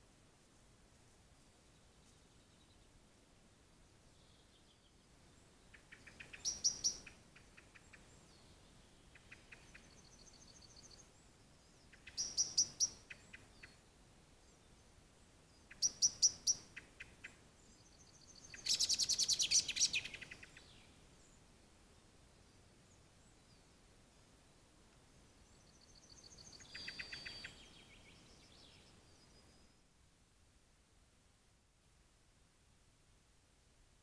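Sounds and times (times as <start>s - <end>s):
songbird singing: 0.5s - 30.1s.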